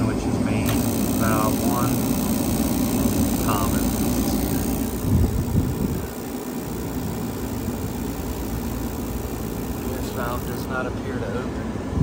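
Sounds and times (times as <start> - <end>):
hvac motor rumbling: 0.0 - 12.0.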